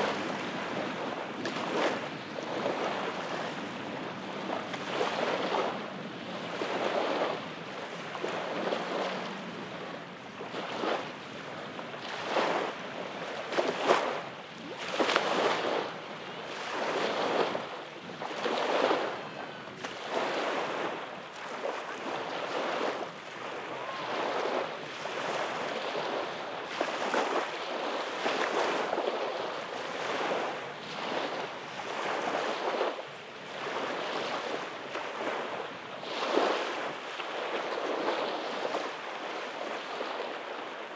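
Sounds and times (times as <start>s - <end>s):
small waves lapping on beach: 0.0s - 40.9s.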